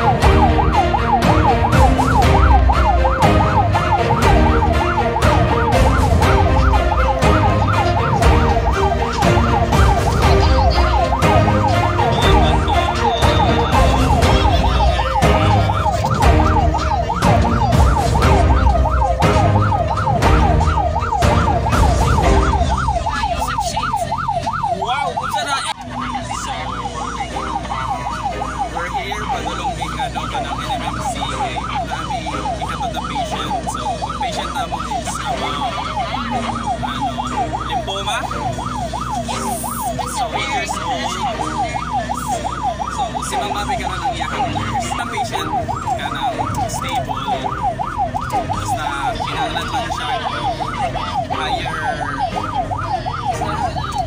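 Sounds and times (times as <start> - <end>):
ambulance siren yelp: 0.0 - 54.0
engine and road rumble: 0.0 - 54.0.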